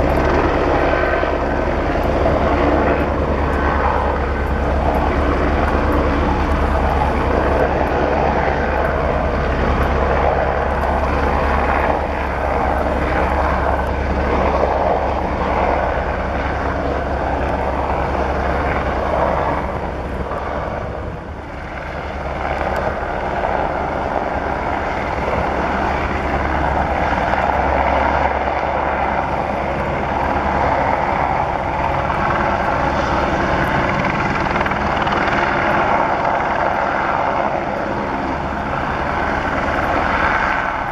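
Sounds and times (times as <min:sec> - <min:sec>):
helicopter rotor and turbine: 0:00.0 - 0:40.9.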